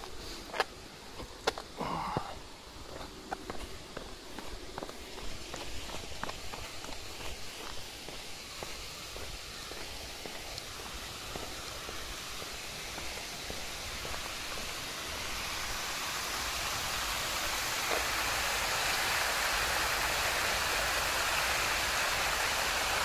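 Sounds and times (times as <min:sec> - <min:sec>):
steady rushing noise: 0:00.0 - 0:23.0.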